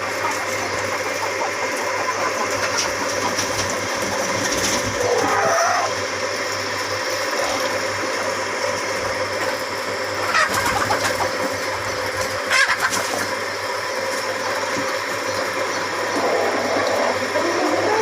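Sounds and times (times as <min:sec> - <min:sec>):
chickens clucking: 0:00.0 - 0:06.0, 0:07.0 - 0:18.0
steady mechanical hum: 0:00.0 - 0:18.0.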